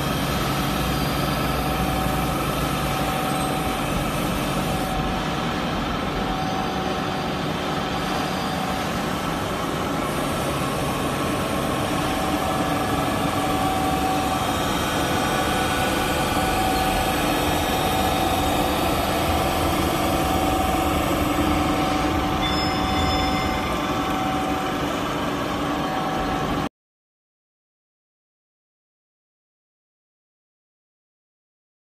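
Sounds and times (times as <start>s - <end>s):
grinding machine humming and whining: 0.0s - 26.7s.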